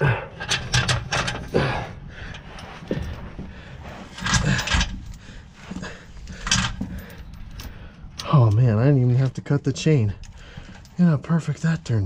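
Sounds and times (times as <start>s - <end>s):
chain clinking and rattling: 0.2s - 12.0s.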